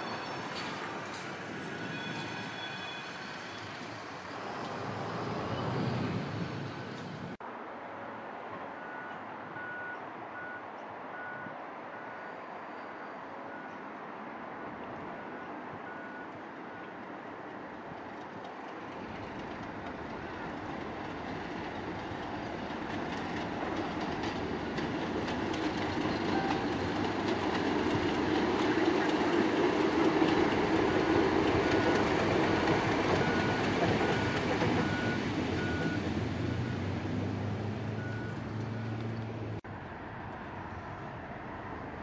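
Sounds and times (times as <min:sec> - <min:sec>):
diesel train passing: 0:00.0 - 0:42.0.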